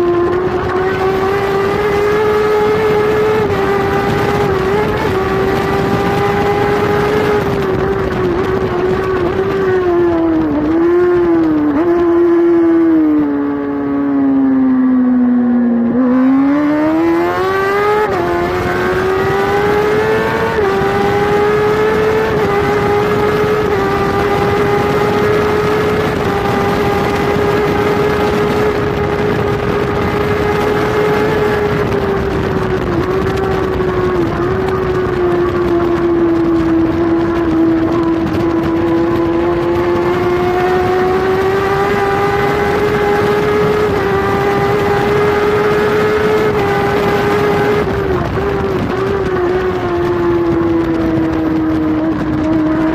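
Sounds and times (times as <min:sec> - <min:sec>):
rushing wind: 0:00.0 - 0:52.9
superbike engine at racing speed: 0:00.0 - 0:52.9.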